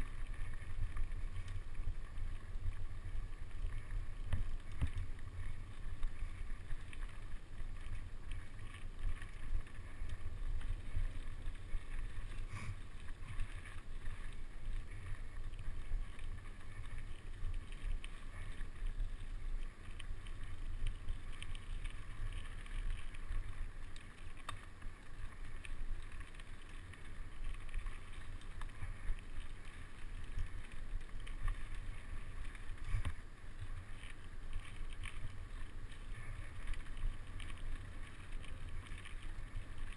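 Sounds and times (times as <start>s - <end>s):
bike rattling and clicking: 0.0s - 39.9s.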